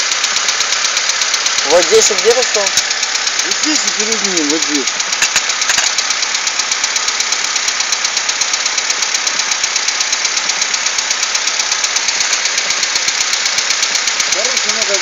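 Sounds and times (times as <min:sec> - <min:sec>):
engine idling: 0:00.0 - 0:15.0
rapid engine ticking knock: 0:00.0 - 0:15.0.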